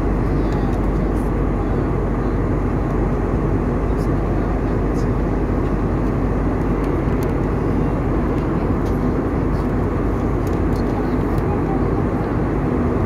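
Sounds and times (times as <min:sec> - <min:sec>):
airliner cabin engine roar: 0:00.0 - 0:13.0.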